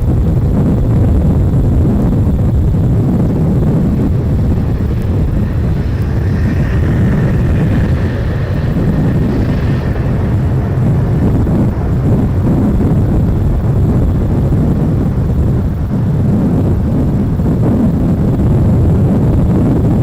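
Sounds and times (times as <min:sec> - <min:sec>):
jet airliner rumble and whine: 0:00.0 - 0:20.0
wind buffeting microphone: 0:00.0 - 0:20.0.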